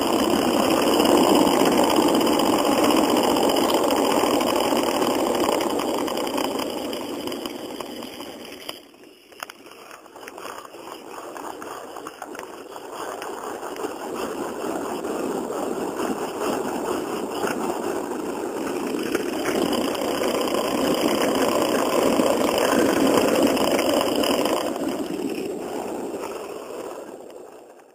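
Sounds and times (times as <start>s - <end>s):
board wheels rumbling on pavement: 0.0s - 27.9s.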